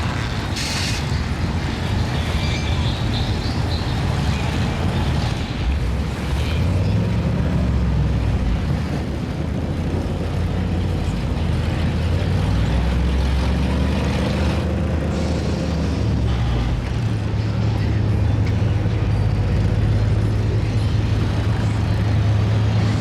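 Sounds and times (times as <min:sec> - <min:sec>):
large vehicle engine running: 0:00.0 - 0:23.0.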